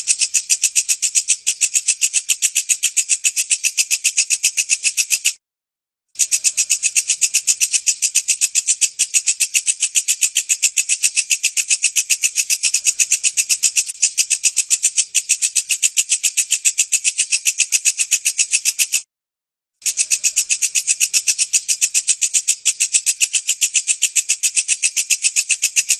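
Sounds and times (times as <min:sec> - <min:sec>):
katydid calling in dry pulses: 0:00.0 - 0:05.4, 0:06.2 - 0:19.1, 0:19.8 - 0:25.9.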